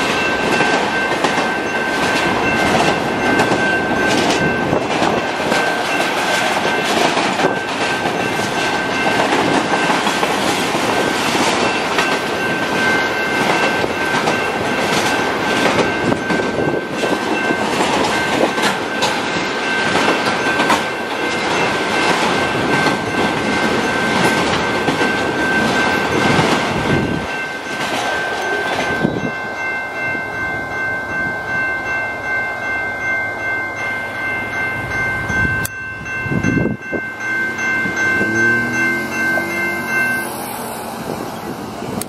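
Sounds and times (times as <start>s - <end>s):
crossing warning bell ringing: 0.0s - 42.0s
freight train rumbling and clattering: 0.0s - 42.0s.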